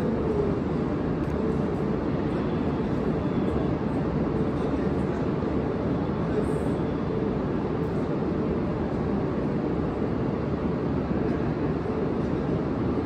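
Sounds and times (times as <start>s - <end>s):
train equipment humming and whirring: 0.0s - 13.0s.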